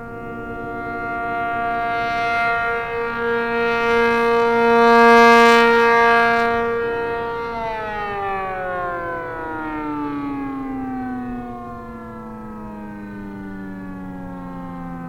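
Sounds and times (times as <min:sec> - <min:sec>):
rotating siren two-tone chord: 0:00.0 - 0:15.0.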